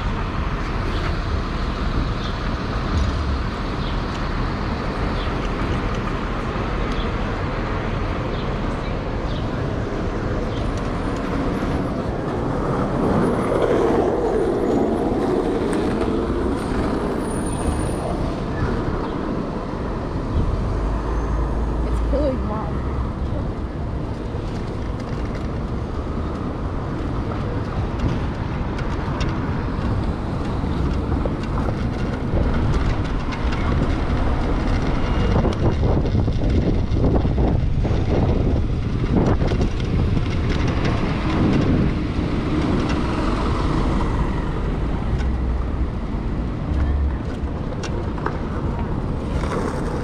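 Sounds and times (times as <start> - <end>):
traffic noise: 0.0 - 50.0
vehicles passing: 0.0 - 50.0
wind rumble: 0.0 - 50.0.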